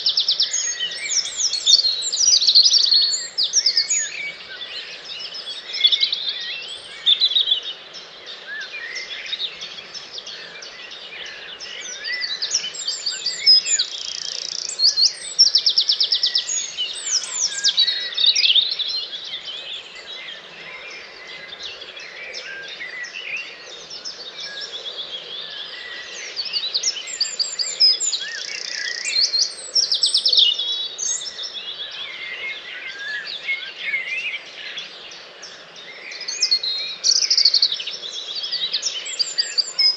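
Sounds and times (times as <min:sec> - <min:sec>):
bird song with fast trill: 0:00.0 - 0:39.9
birds singing: 0:00.0 - 0:39.9.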